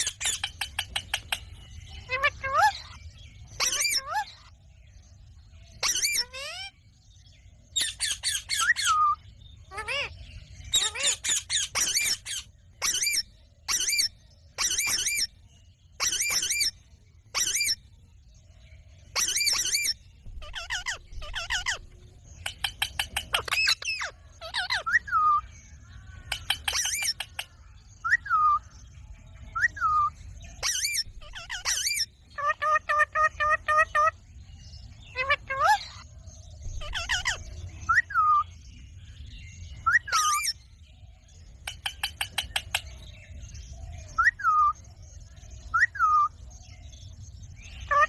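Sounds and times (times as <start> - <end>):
parakeets screeching and chattering: 0.0 - 4.6, 5.2 - 6.9, 7.7 - 18.0, 19.0 - 48.0.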